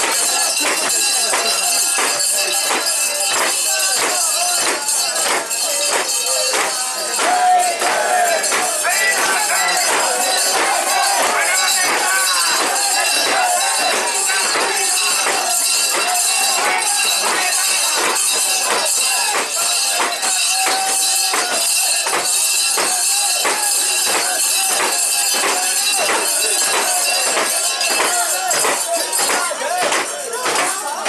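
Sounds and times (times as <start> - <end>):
people chanting: 0.0 - 31.0.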